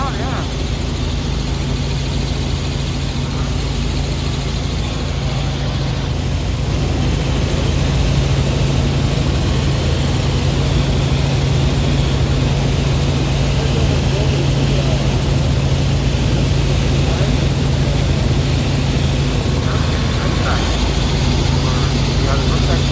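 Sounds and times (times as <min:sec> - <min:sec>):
helicopter engine and rotor drone: 0:00.0 - 0:22.9.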